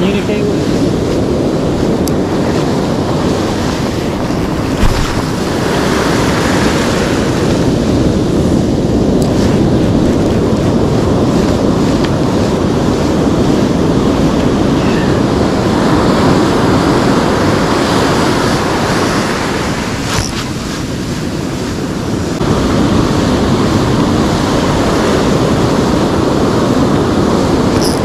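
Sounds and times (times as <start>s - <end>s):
ocean surf breaking: 0.0s - 28.0s
wind buffeting microphone: 0.0s - 28.0s.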